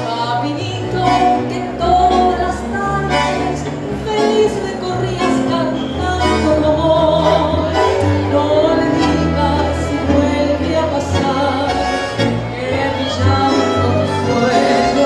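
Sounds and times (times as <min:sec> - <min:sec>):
bandoneon: 0:00.0 - 0:15.0
violin: 0:00.0 - 0:15.0
woman singing into a microphone: 0:00.0 - 0:15.0.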